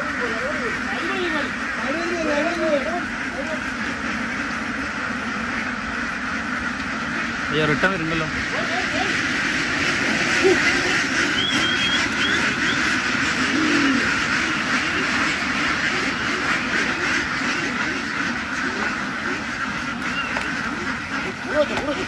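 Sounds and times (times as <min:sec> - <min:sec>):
flock of ducks quacking: 0:00.0 - 0:22.0.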